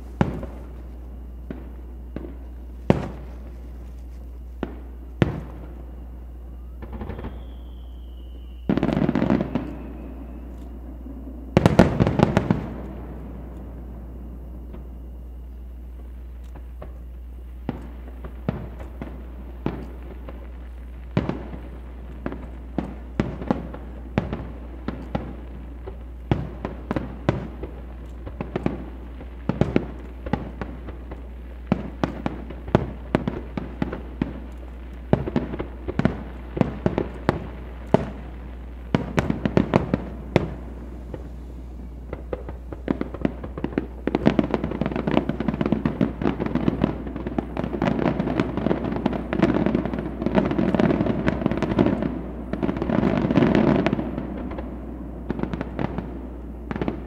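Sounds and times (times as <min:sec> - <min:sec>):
firework shells bursting: 0:00.0 - 0:57.0.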